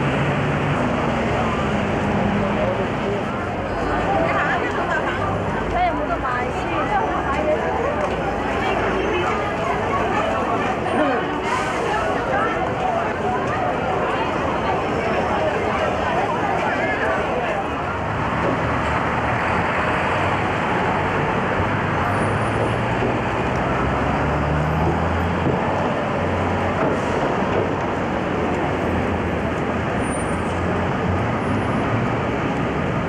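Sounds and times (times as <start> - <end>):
city street traffic: 0.0 - 33.0.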